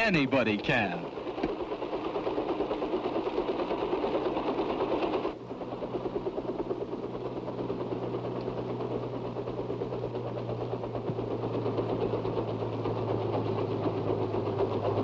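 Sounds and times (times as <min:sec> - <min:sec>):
drone helicopter rotor chop: 0:00.0 - 0:15.0
helicopter engine and rotors: 0:00.0 - 0:15.0.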